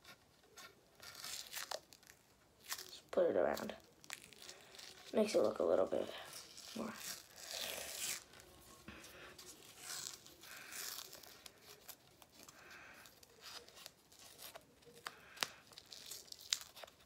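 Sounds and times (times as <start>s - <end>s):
tape peeling and crinkling: 0.0s - 17.0s.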